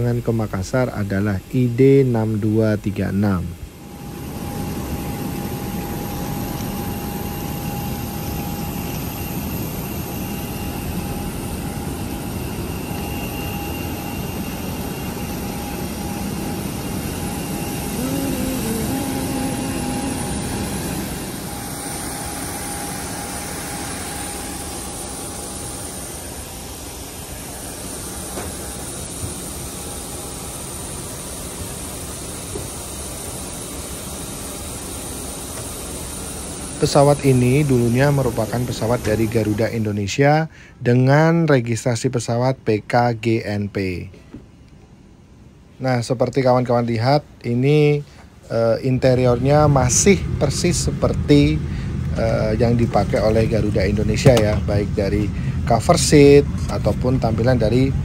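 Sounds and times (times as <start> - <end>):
jet turbine roar and whine: 0.0 - 58.0.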